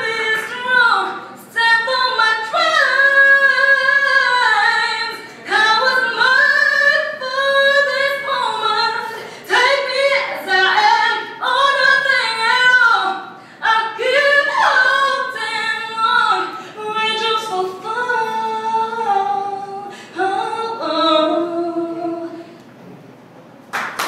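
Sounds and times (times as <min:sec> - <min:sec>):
woman singing a cappella: 0:00.0 - 0:22.6.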